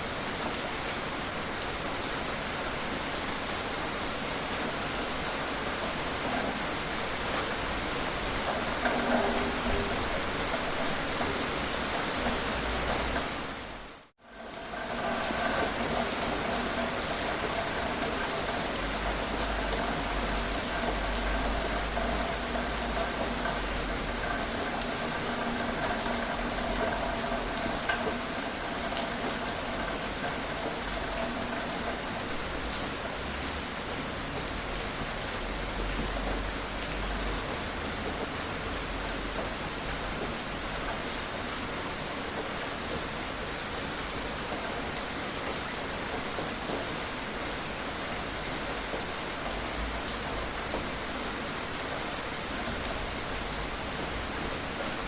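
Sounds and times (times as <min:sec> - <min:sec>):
gentle rain falling: 0:00.0 - 0:55.0
raindrop ticks: 0:05.7 - 0:13.7, 0:14.3 - 0:54.2.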